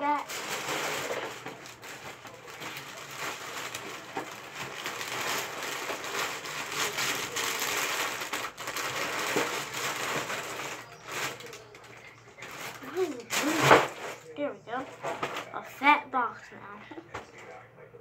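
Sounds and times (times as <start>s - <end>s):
cereal and plastic bag crinkling: 0.0s - 15.6s.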